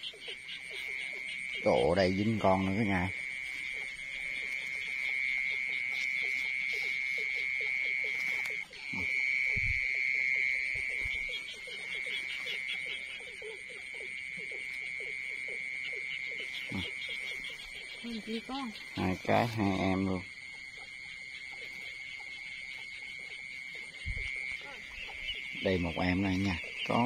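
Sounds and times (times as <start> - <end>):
frogs calling: 0.0 - 27.0
high-pitched insect trill: 0.0 - 27.0.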